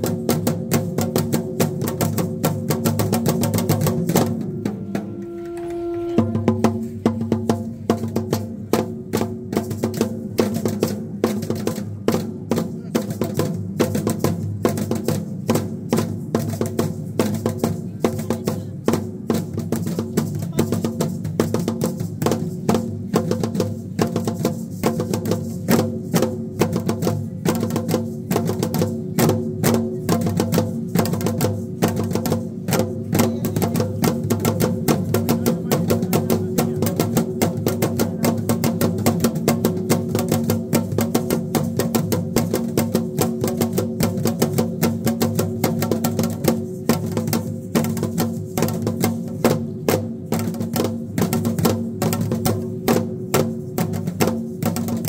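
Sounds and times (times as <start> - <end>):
fast steady drumbeat: 0.0 - 55.0.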